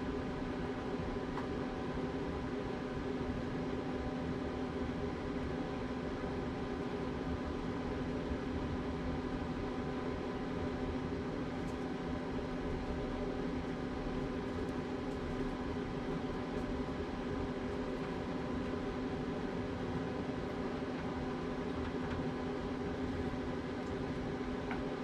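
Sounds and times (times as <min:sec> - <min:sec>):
steady machine hum: 0:00.0 - 0:25.0.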